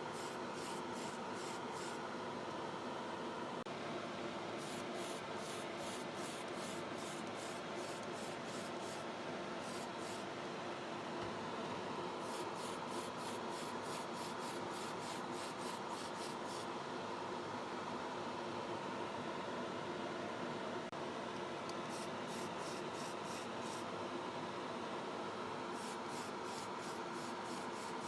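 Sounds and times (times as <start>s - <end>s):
steady fan hum: 0.0s - 28.0s.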